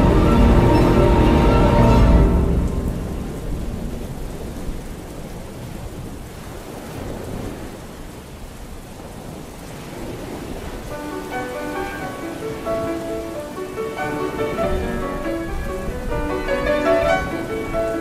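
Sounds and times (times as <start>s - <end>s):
low rumble of thunder: 0.0s - 12.0s, 14.0s - 18.0s
steady rain: 0.0s - 18.0s.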